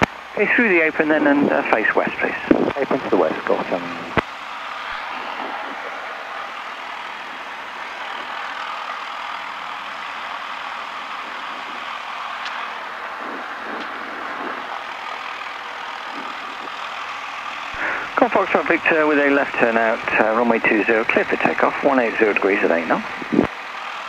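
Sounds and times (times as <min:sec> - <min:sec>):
light aircraft engine idling: 0:00.0 - 0:24.0.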